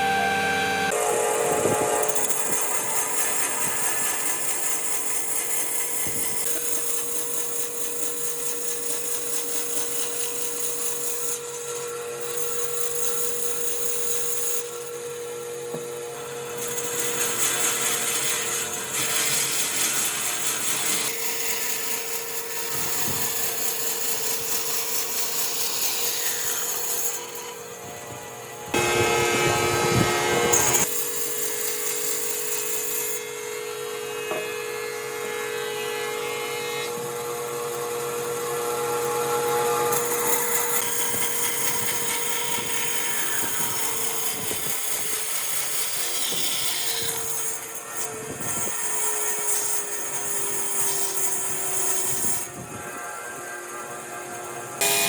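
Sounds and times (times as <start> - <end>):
power tool working wood: 0.0 - 55.0.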